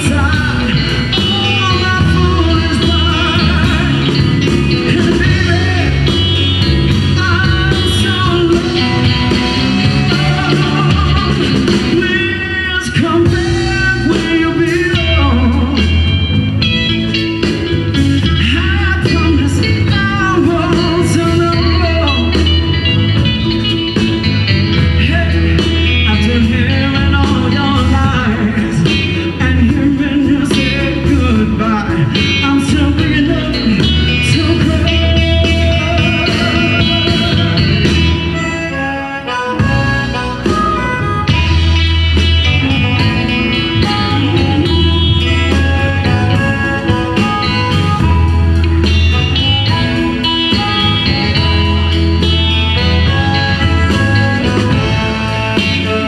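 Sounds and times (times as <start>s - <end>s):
person singing: 0.0s - 16.3s, 18.0s - 56.0s
amplified harmonica: 0.0s - 56.0s
live blues band playing: 0.0s - 56.0s.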